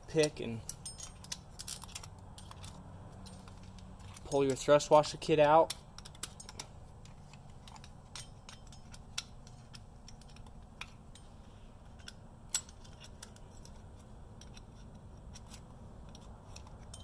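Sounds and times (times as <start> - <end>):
metallic clicks and scrapes: 0.0 - 17.0.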